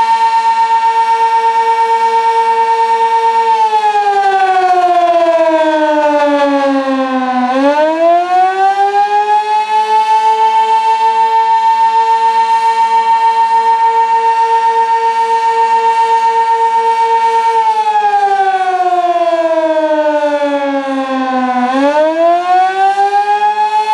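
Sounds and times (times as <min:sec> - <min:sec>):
outdoor warning siren wailing: 0:00.0 - 0:23.9.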